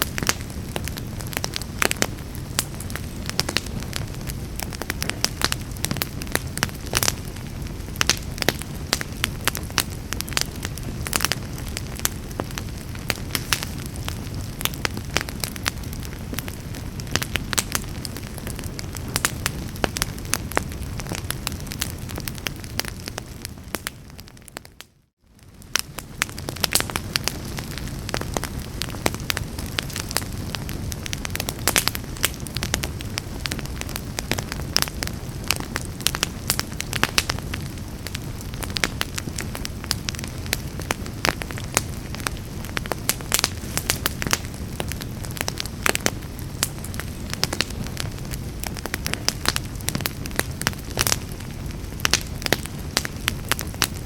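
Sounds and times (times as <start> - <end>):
fire crackling and popping: 0.0 - 54.0
low rush of flames: 0.0 - 54.0.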